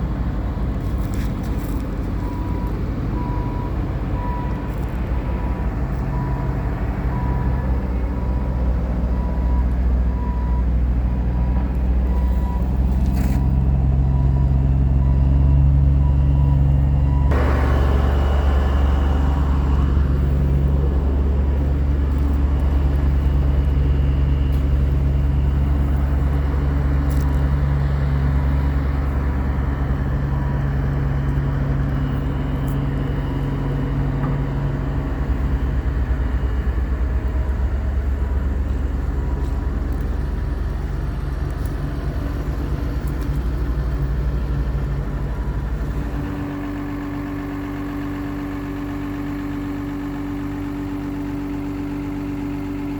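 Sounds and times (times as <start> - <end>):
excavator diesel engine droning: 0.0 - 52.9.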